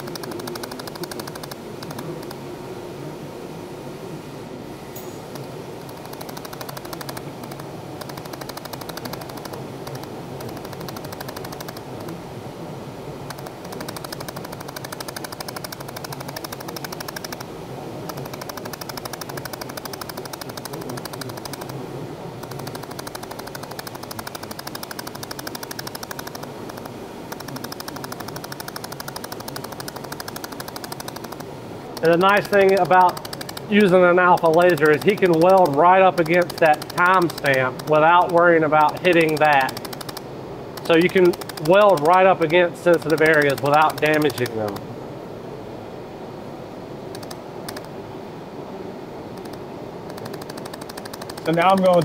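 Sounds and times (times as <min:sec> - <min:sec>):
laser welder ticking: 0:00.0 - 0:02.4, 0:05.3 - 0:12.2, 0:13.3 - 0:17.5, 0:18.1 - 0:21.8, 0:22.4 - 0:44.8, 0:49.4 - 0:52.0
steady hum: 0:00.0 - 0:52.0.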